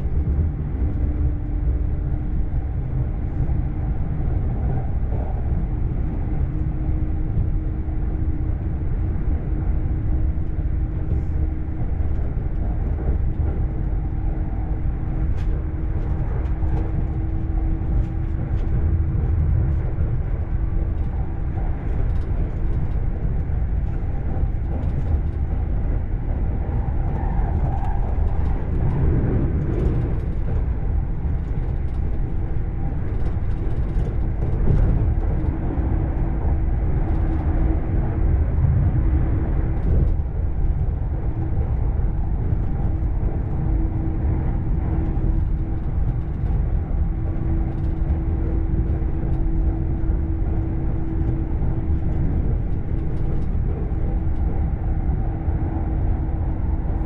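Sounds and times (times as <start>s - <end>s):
steady low hum: 0.0s - 57.0s
train wheels rumbling on rail: 0.0s - 57.0s.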